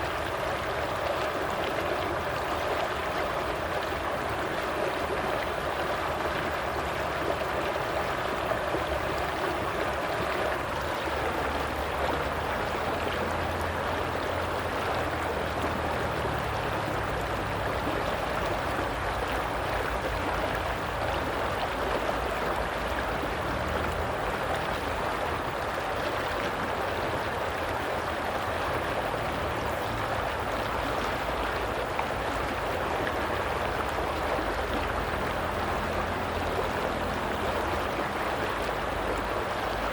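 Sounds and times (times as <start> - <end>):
stream water burbling: 0.0 - 39.9.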